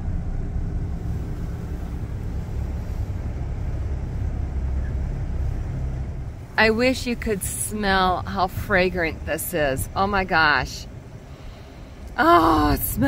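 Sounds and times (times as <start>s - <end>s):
pickup truck rumble from inside: 0.0s - 13.0s.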